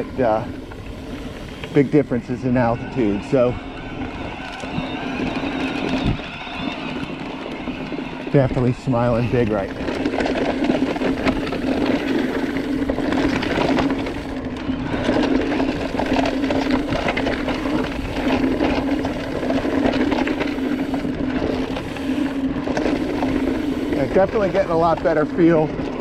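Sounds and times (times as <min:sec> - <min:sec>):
bike rattling over bumps: 0:00.0 - 0:26.0
electric motor hum: 0:00.0 - 0:26.0
tyres rumbling on dirt: 0:00.0 - 0:26.0.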